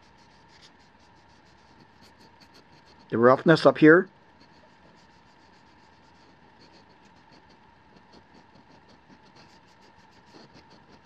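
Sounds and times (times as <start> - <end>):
finger scratching gritty tip: 0.0 - 3.1, 4.4 - 11.0.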